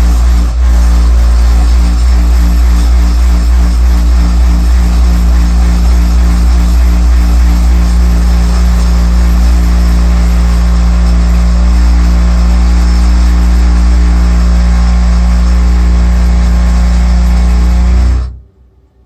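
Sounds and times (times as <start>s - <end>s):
boiler vibrating with low hum: 0.0s - 18.4s.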